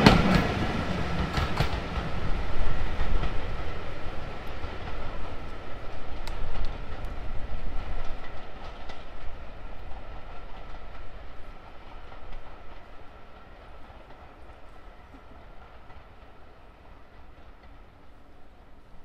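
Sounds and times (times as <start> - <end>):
steam train running past: 0.0 - 19.0.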